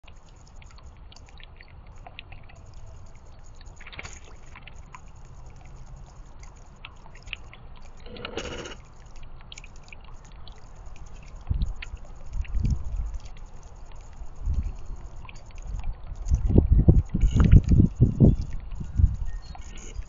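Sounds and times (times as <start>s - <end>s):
fountain trickling and splashing: 0.0s - 20.0s.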